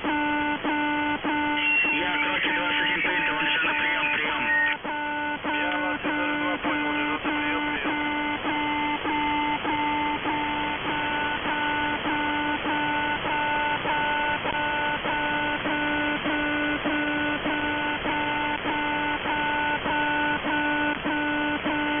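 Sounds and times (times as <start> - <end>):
low buzzing radio tone: 0.0 - 22.0
radio static: 0.0 - 22.0.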